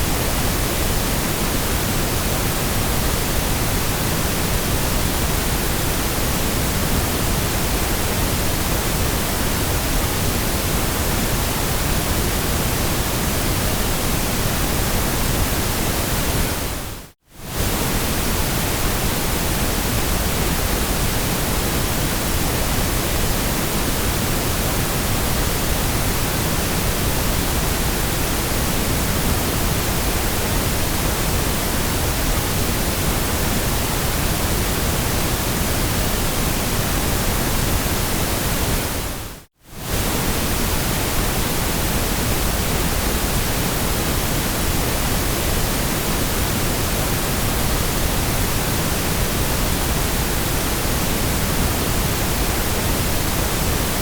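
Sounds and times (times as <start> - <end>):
steady white noise hiss: 0.0 - 54.0.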